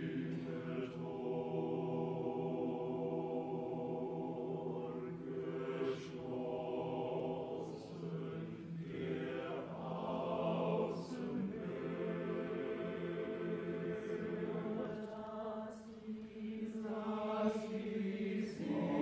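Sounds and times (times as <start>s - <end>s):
choir singing unaccompanied: 0.0s - 19.0s.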